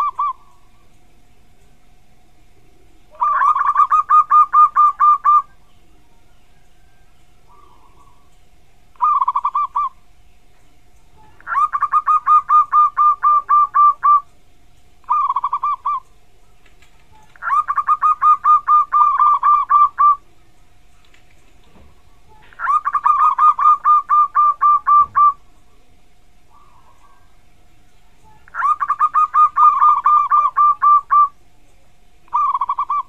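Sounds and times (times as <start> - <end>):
dove cooing: 0.0 - 0.9, 2.6 - 10.1, 11.1 - 14.4, 15.0 - 31.5, 32.3 - 33.0
faint steady hum: 0.0 - 33.0.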